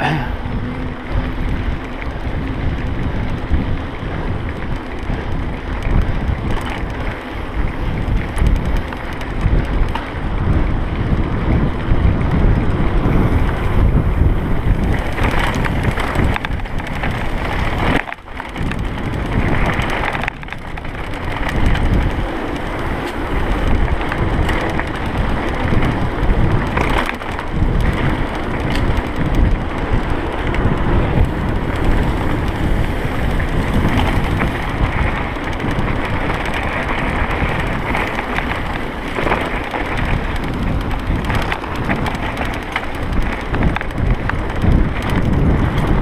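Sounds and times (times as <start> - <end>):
bike knocking and rattling: 0.0 - 46.0
bike tyres rumbling on dirt: 0.0 - 46.0
wind buffeting microphone: 0.0 - 46.0.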